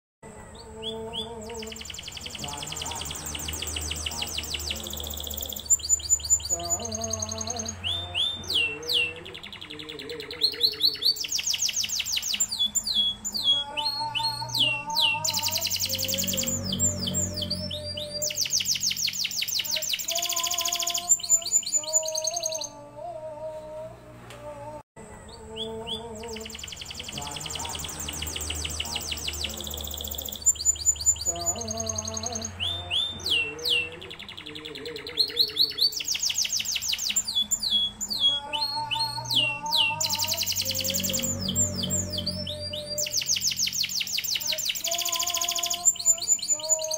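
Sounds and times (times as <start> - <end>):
canary singing fast trills: 0.3 - 22.8, 25.2 - 46.9.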